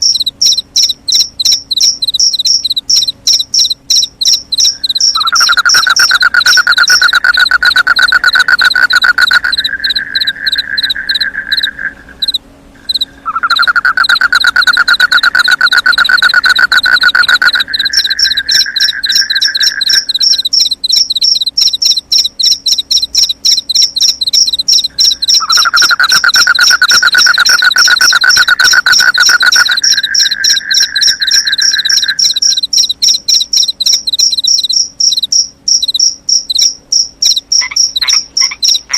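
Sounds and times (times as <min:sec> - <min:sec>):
crickets chirping: 0:00.0 - 0:38.9
frog trilling: 0:00.0 - 0:38.9.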